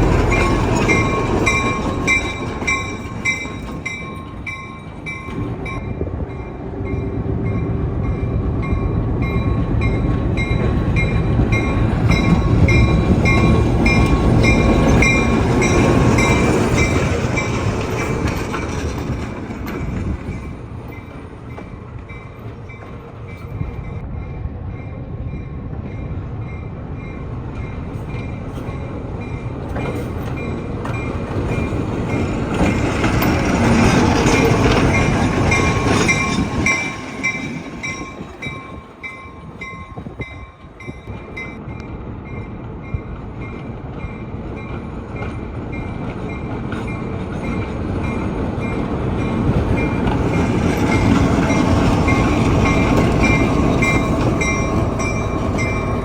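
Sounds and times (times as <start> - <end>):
railroad crossing bell dinging: 0.0 - 56.0
train rumbling past: 0.0 - 56.0.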